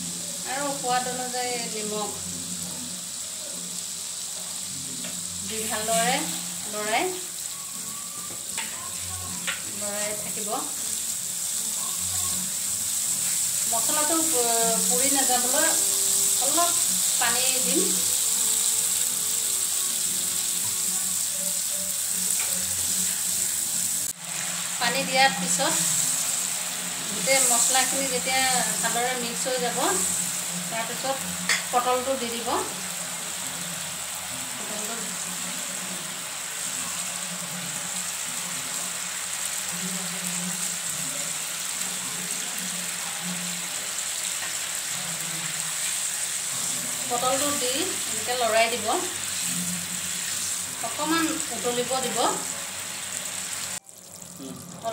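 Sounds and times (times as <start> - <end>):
paste sizzling in hot oil: 0.0 - 54.9.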